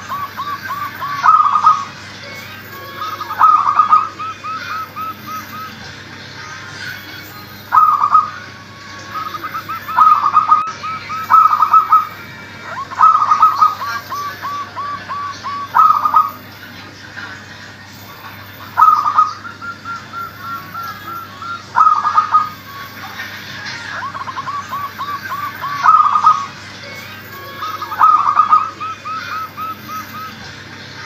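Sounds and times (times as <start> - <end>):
doves cooing: 0.0 - 6.0, 6.7 - 16.8, 17.6 - 30.6.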